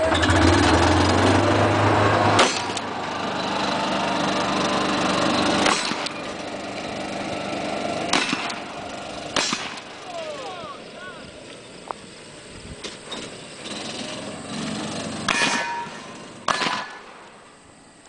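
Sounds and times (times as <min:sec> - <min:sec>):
small vehicle engine driving off: 0:00.0 - 0:18.0.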